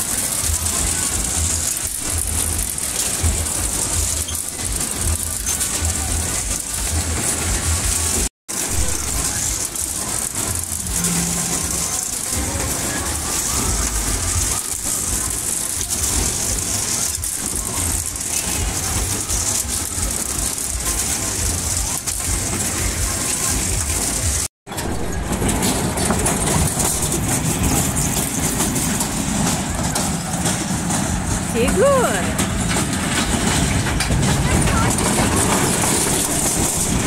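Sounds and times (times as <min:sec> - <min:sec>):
engine-like rumble of rides: 0:00.0 - 0:37.0.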